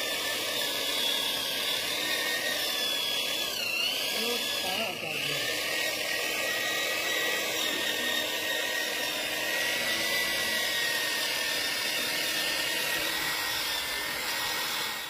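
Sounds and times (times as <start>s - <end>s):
machine motor whining: 0.0s - 15.0s.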